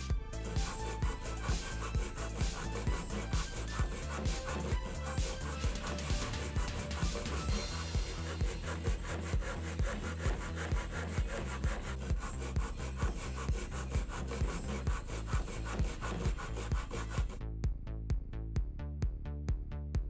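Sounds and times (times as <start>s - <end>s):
background music with beat: 0.0s - 20.0s
hand saw cutting wood: 0.4s - 17.4s.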